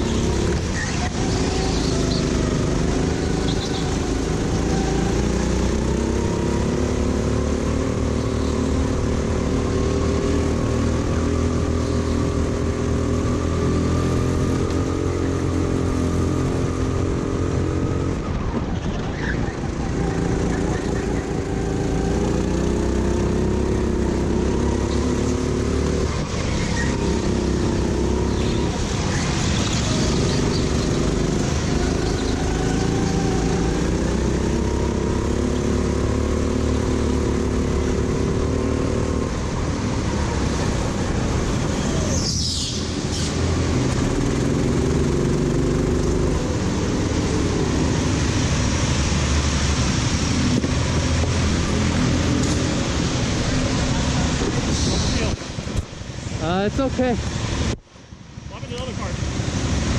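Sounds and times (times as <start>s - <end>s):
go-kart engine revving: 0.0s - 18.3s, 19.0s - 57.2s.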